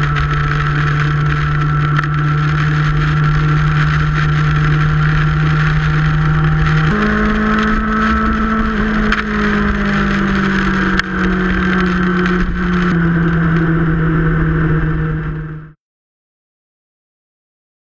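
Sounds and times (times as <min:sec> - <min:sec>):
wind and rain noise: 0:00.0 - 0:15.5
motorcycle engine running: 0:00.0 - 0:15.8.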